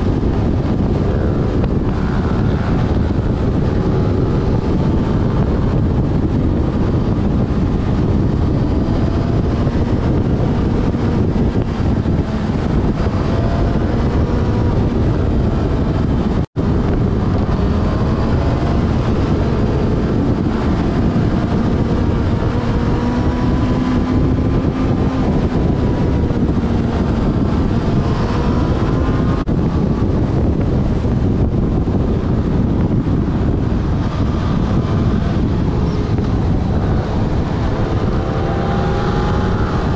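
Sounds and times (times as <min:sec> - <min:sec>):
motorcycle engine: 0:00.0 - 0:39.9
wind buffeting camera: 0:00.0 - 0:39.9.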